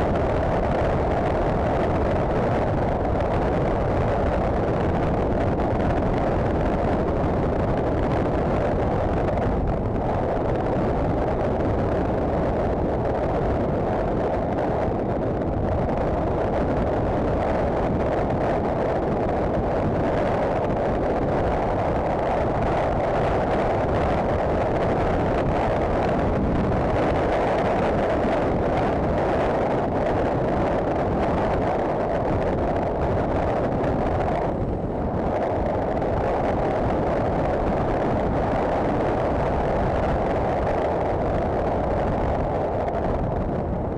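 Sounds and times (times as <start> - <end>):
wind and road noise: 0.0 - 43.9.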